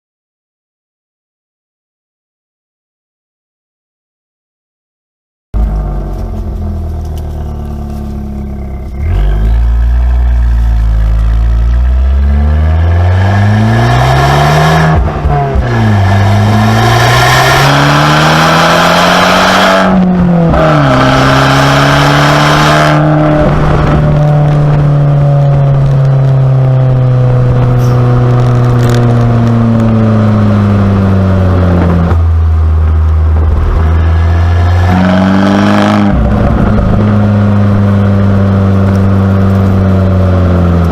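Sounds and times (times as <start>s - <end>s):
turbocharged car engine revving: 5.6s - 40.9s.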